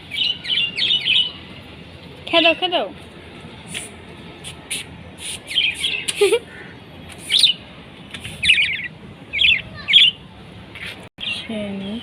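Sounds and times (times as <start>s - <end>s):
small birds chirping trills: 0.0s - 3.7s, 4.6s - 12.0s.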